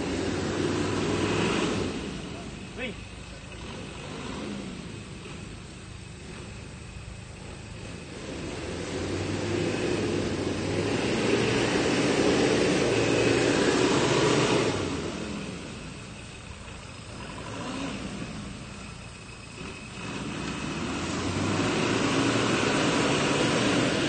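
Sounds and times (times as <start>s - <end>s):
engine revving hard: 0.0s - 6.7s, 7.8s - 24.0s.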